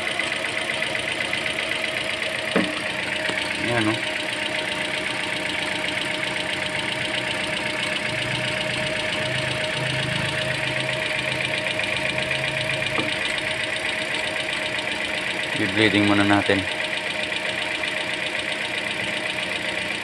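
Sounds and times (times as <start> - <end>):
car engine idling: 0.0 - 20.0
fast even ticking: 1.0 - 20.0.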